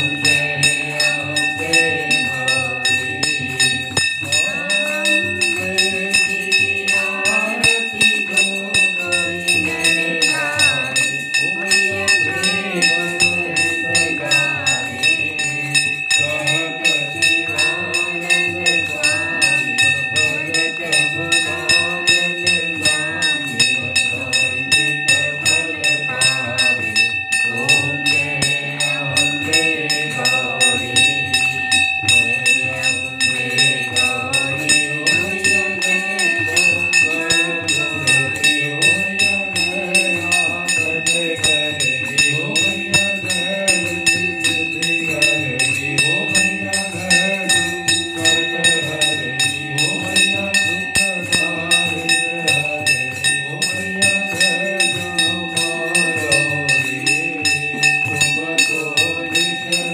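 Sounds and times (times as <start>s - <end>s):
devotional singing: 0.0s - 59.9s
jingling rattling percussion: 0.0s - 59.9s
sustained ringing tone: 0.0s - 59.9s.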